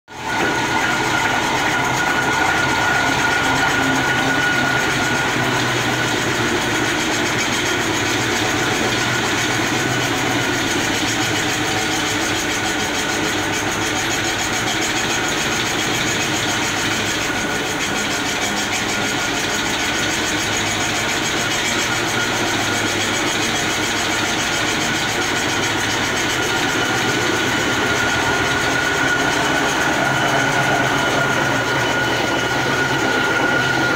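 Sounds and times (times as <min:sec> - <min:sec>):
high machine whine: 0:00.1 - 0:33.9
veneer lathe peeling log: 0:00.2 - 0:33.9.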